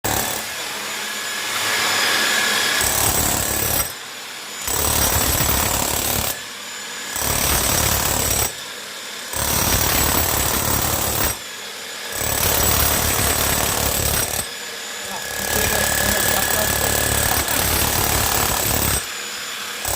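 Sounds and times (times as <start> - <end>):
electric demolition hammer chiselling: 0.0 - 19.9.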